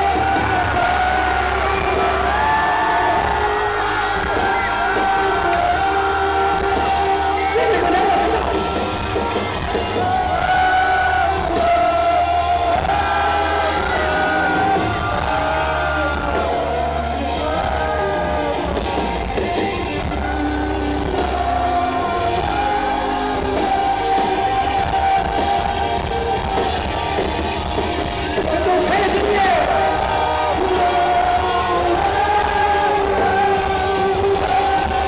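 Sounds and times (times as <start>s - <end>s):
man singing lead vocals: 0.0s - 8.8s, 9.9s - 26.6s, 28.4s - 35.0s
bass guitar: 0.0s - 35.0s
electric guitar: 0.0s - 35.0s
live rock band: 0.0s - 35.0s.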